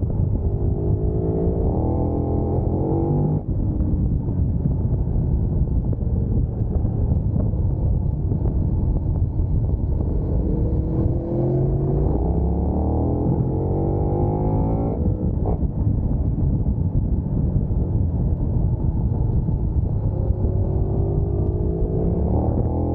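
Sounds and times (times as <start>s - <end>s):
motorcycle engine accelerating: 0.0s - 22.9s
wind on microphone: 0.0s - 22.9s.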